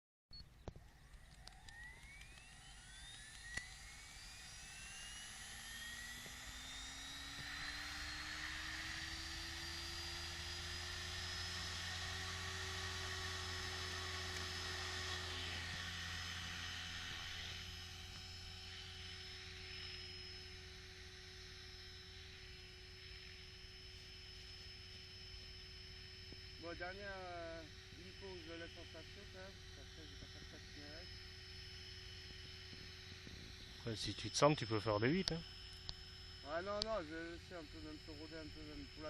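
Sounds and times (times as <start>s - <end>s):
rotor hum: 0.3s - 39.0s
helicopter motor whine: 0.4s - 39.0s.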